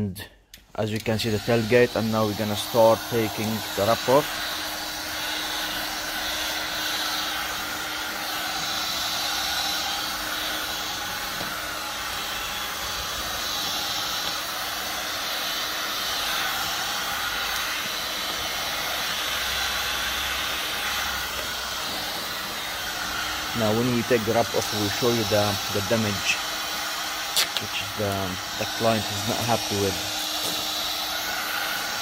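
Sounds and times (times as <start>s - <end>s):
heat gun blowing hot air: 0.6s - 32.0s.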